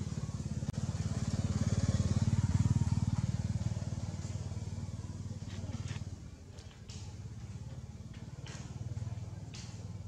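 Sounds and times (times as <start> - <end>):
small motorcycle engine passing: 0.0 - 10.0.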